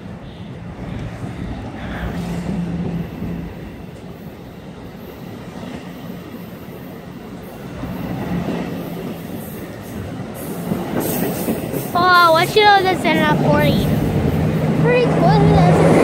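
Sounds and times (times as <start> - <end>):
train coaches rolling on rails: 0.0 - 16.0.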